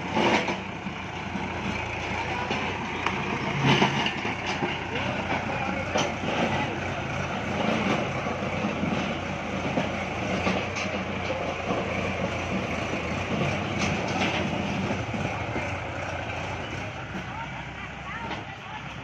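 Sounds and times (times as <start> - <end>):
tractor engine running: 0.0 - 19.0
metal clanks: 0.1 - 17.3.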